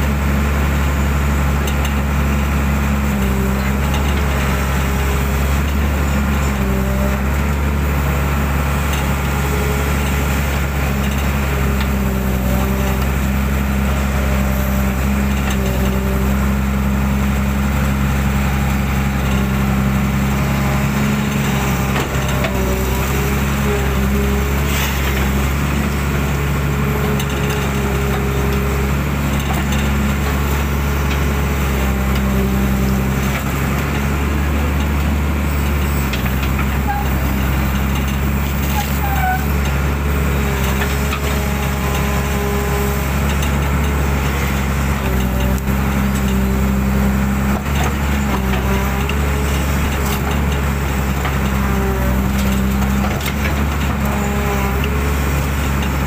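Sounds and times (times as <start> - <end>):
excavator diesel engine running: 0.0 - 56.0
hydraulic whine: 2.1 - 56.0.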